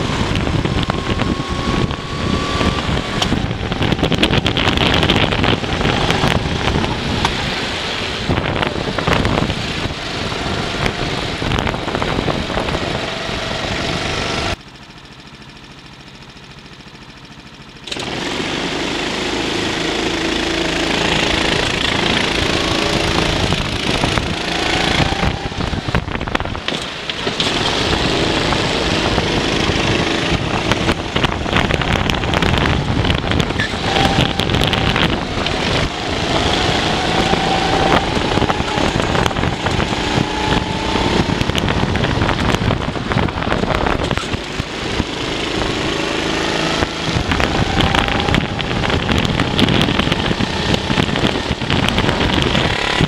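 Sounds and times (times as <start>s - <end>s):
wind buffeting microphone: 0.0s - 14.6s, 19.6s - 53.0s
go-kart engine racing: 0.0s - 53.0s.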